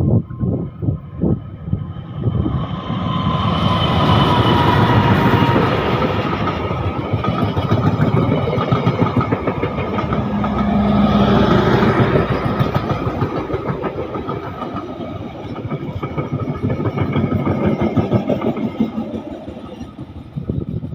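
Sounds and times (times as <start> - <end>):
train wheels clattering on rails: 2.5 - 20.9.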